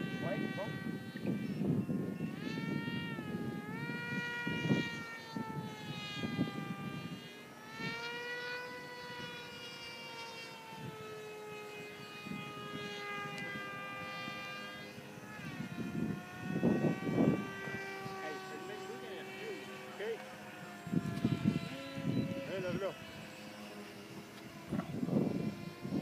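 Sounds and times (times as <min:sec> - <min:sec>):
model plane propeller whine: 0:00.0 - 0:26.0.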